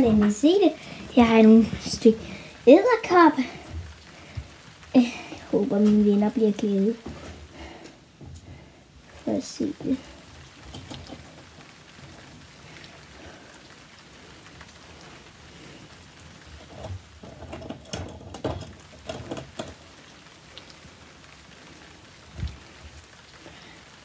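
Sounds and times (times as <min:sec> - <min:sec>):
faint hiss: 0:00.0 - 0:24.0.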